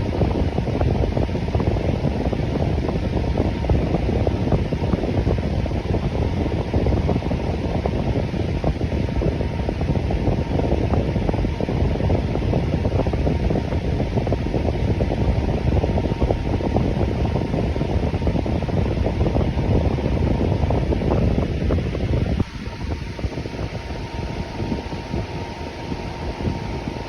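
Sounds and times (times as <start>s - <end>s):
electric fan whoosh: 0.0s - 27.0s.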